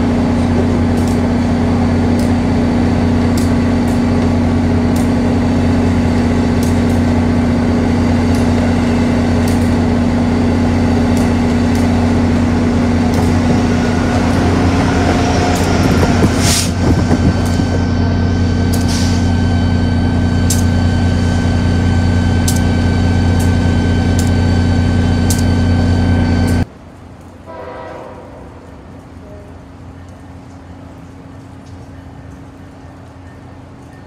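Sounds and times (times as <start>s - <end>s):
electric train humming: 0.0s - 34.0s.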